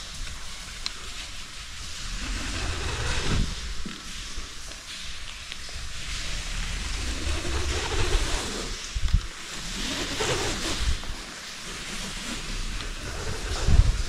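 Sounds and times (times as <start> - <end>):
rushing noise: 0.0 - 14.0.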